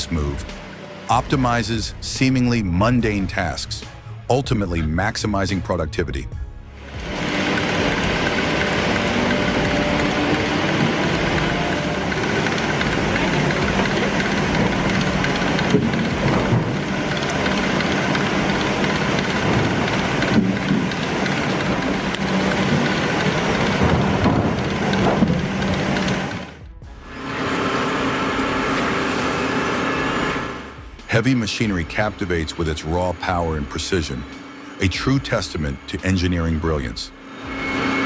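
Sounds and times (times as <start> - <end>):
heavy machinery engine drone: 0.0 - 38.0.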